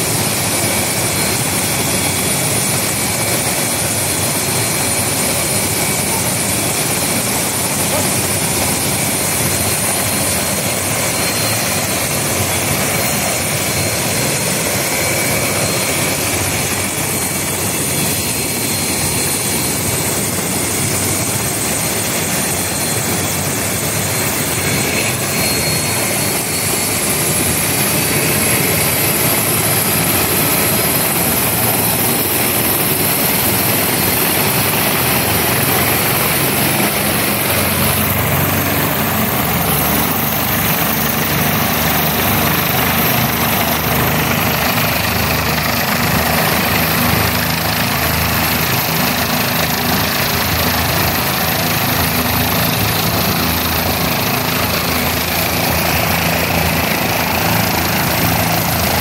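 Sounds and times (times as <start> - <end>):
helicopter rotor and engine: 0.0 - 59.0
high turbine whine: 0.0 - 59.0.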